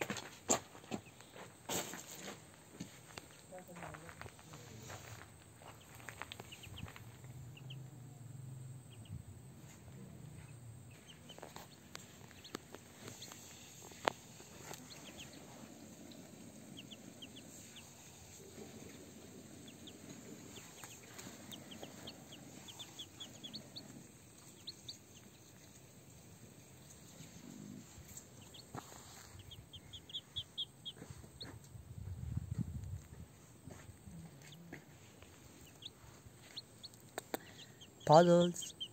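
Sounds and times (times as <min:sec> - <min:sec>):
ducklings and chick peeping: 0:05.7 - 0:08.0, 0:08.9 - 0:38.9.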